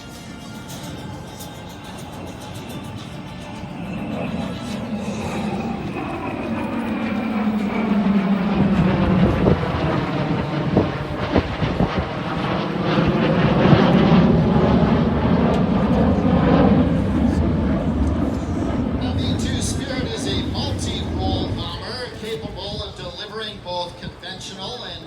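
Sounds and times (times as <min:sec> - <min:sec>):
jet engines roaring past: 0:00.0 - 0:25.0.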